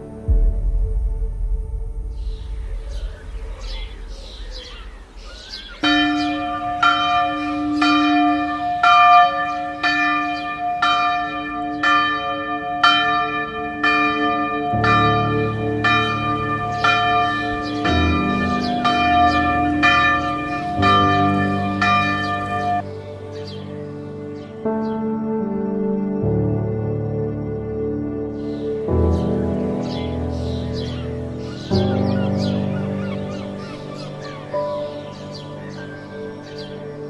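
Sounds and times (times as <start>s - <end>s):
slow low chords: 0.0s - 37.0s.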